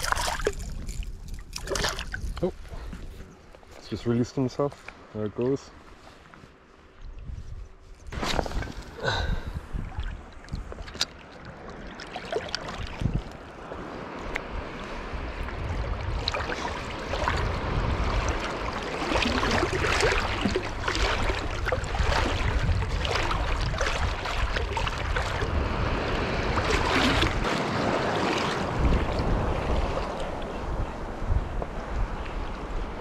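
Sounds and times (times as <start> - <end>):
wind rumble on microphone: 0.0 - 4.2, 7.0 - 11.7, 12.5 - 33.0
sea water lapping and splashing: 0.0 - 33.0.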